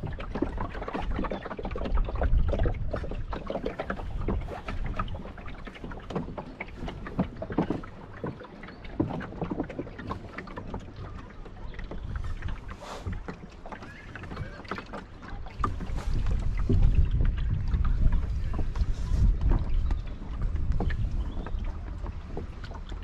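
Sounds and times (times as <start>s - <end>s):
wind buffeting microphone: 0.0s - 8.4s, 9.0s - 23.0s
water slapping against hull: 0.0s - 23.0s.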